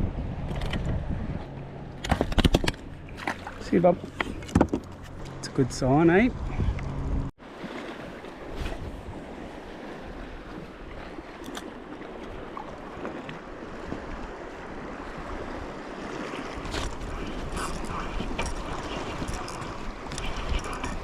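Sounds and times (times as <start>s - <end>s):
wind buffeting microphone: 0.0s - 3.2s, 3.8s - 7.3s, 8.5s - 21.0s
water lapping against kayak hull: 1.4s - 5.4s, 6.3s - 21.0s.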